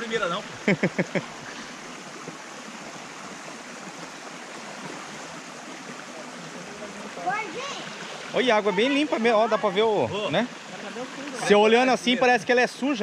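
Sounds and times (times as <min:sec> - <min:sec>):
flowing stream water: 0:00.0 - 0:13.0.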